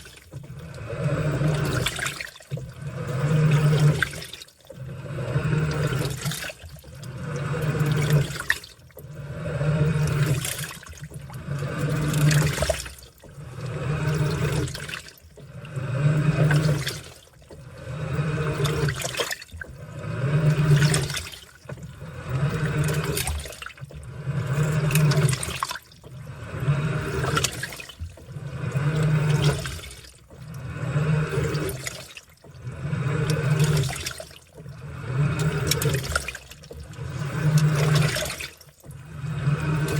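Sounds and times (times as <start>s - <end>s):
washing machine motor hum: 0.0s - 39.9s
water churning in washing machine: 0.0s - 39.9s.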